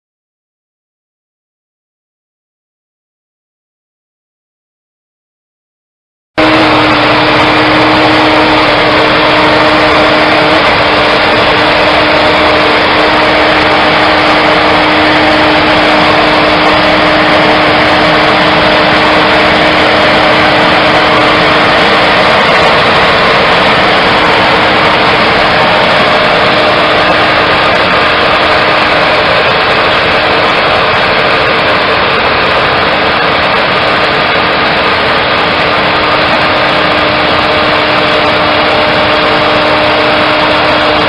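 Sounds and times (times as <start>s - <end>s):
engine droning steadily: 6.4s - 41.0s.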